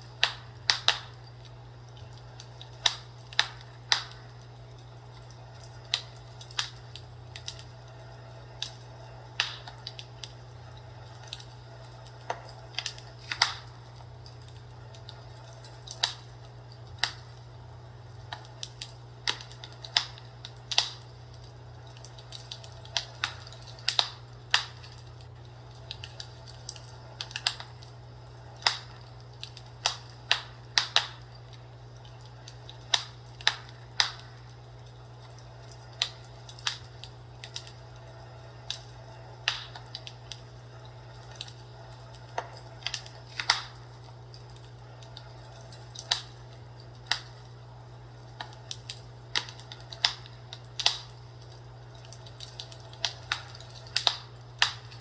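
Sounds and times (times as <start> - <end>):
fireplace crackling: 0.0 - 55.0.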